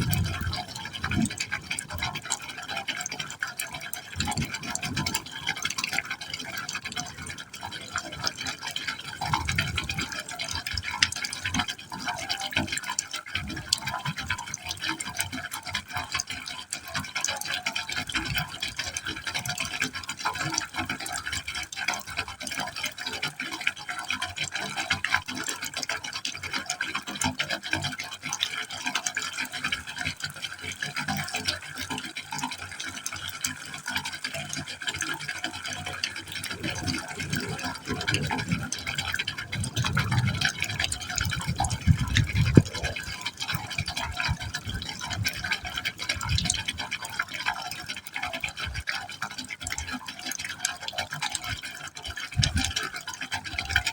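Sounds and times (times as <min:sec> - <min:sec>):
patter of small splashes: 0:00.0 - 0:53.9
water stream splashing and gurgling: 0:00.0 - 0:53.9.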